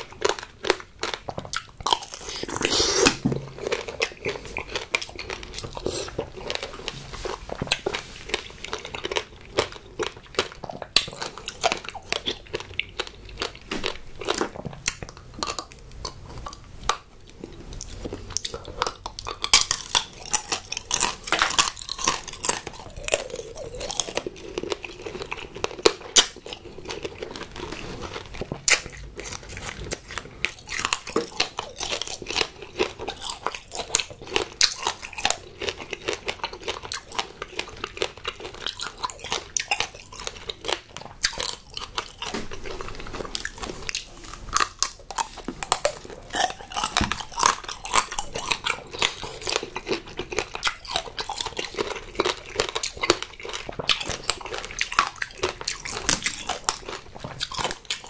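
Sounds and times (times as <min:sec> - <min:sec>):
candy shell crunching: 0:00.0 - 0:58.0
wet chewing: 0:00.0 - 0:58.0.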